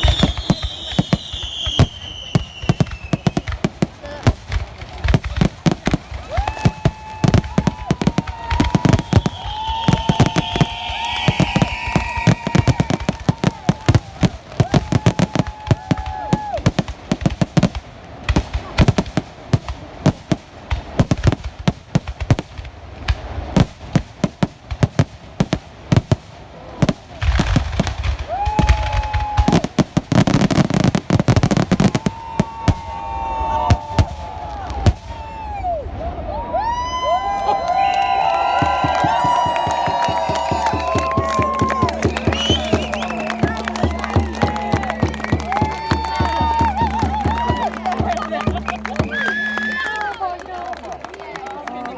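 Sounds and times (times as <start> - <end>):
whistling fireworks: 0.0 - 50.4
firework bangs and crackling: 0.0 - 51.9.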